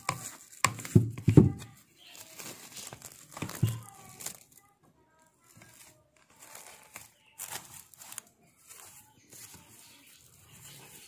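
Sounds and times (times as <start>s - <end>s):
plastic cling film crinkling: 0.0s - 11.0s.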